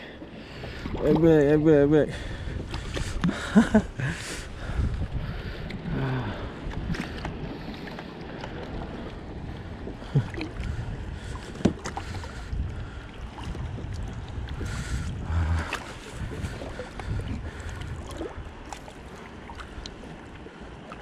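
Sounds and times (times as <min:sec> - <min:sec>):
water sloshing around kayak: 0:00.0 - 0:21.0
wind on microphone: 0:00.6 - 0:18.8.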